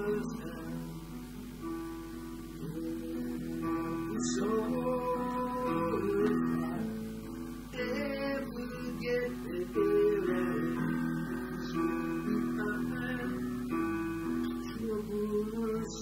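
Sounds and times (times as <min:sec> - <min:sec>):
acoustic guitar strumming chords: 0:00.0 - 0:16.0
digital piano chords: 0:00.0 - 0:16.0.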